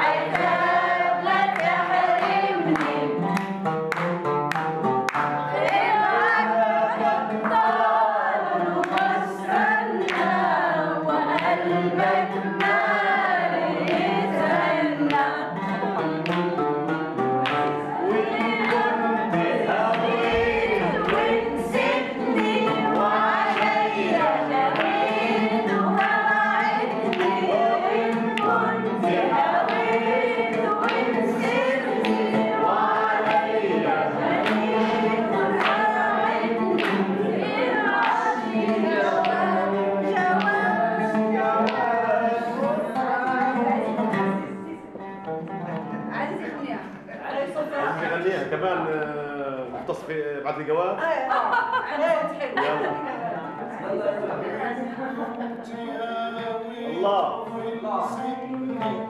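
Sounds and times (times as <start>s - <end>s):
group of people singing: 0.0s - 3.5s, 5.2s - 48.9s, 51.3s - 59.0s.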